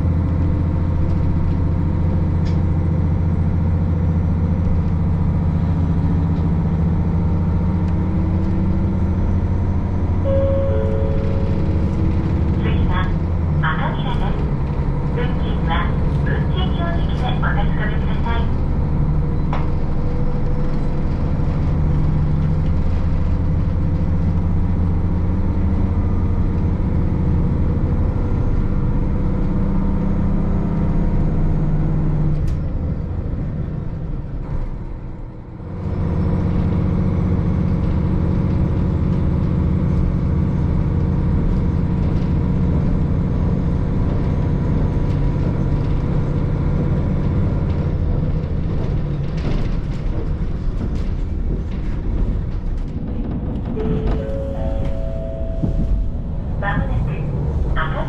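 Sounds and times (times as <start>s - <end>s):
diesel railcar engine humming: 0.0s - 58.0s.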